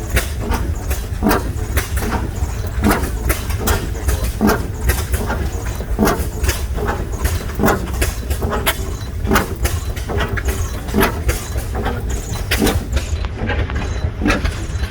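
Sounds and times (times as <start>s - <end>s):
single-cylinder engines exhaust beats: 0.0s - 14.9s.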